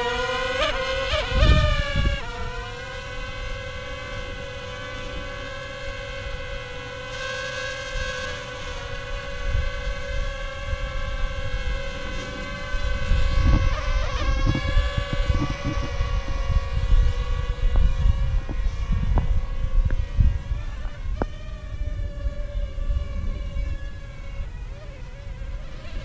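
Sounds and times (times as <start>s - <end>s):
wind buffeting microphone: 0.0s - 7.2s, 7.8s - 26.0s
drone propellers humming: 0.0s - 26.0s.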